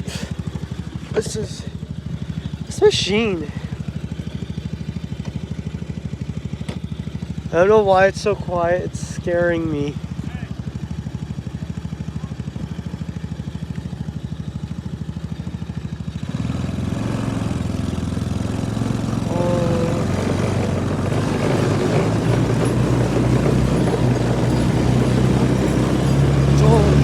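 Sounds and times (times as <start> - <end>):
engine throbbing: 0.0 - 27.0.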